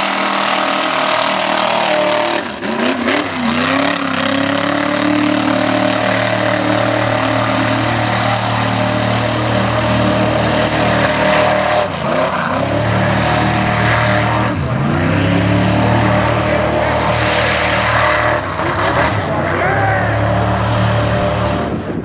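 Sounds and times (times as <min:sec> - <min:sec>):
tires spinning through mud: 0:00.0 - 0:22.0
truck engine revving: 0:00.0 - 0:22.0.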